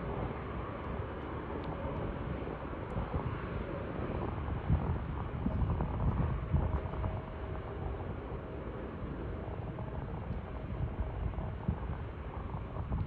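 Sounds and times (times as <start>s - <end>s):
distant jet airliner rumble: 0.0s - 13.0s
wind buffeting microphone: 0.0s - 13.0s.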